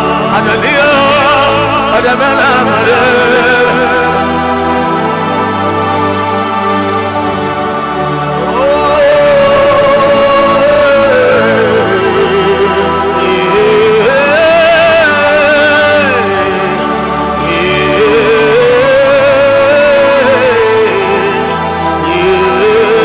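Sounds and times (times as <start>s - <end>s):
low keyboard pad: 0.0s - 23.0s
person singing long notes: 0.0s - 23.0s.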